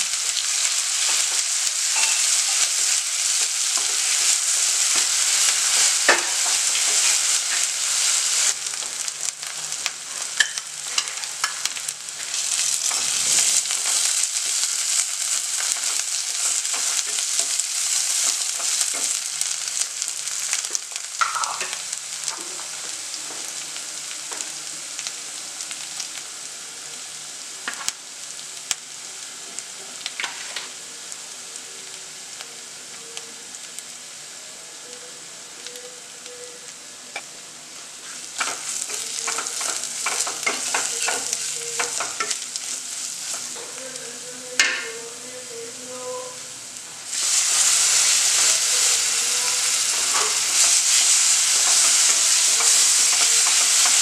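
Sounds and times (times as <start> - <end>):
loud sizzle: 0.0 - 54.0
onions sizzling in oil: 0.0 - 54.0.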